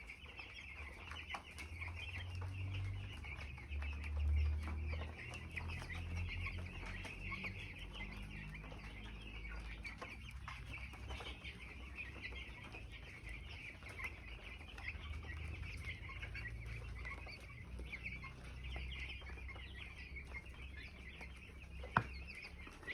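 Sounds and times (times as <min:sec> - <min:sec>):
chicks peeping: 0:00.0 - 0:22.9.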